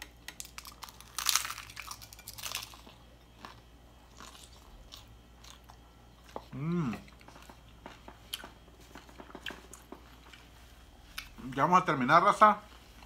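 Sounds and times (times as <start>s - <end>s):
crunchy food being chewed: 0.3s - 11.5s.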